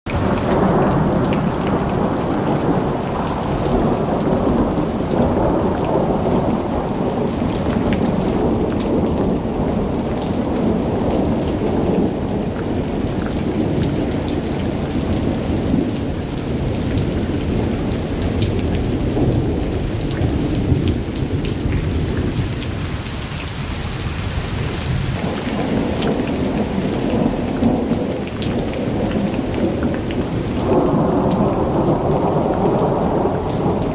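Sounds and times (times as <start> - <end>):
steady rain falling: 0.1 - 33.9
low rumble of thunder: 0.2 - 33.9.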